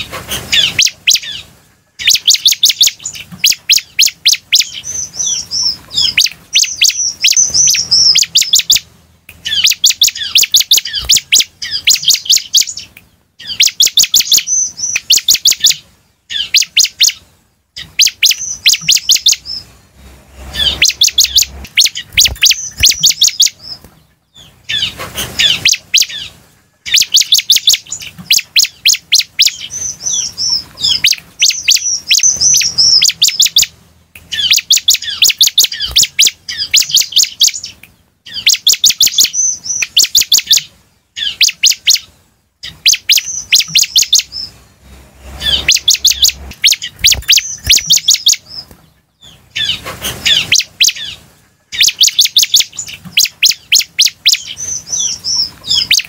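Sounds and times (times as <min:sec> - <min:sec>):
bird singing sharp chips and warbles: 0:00.0 - 0:56.0.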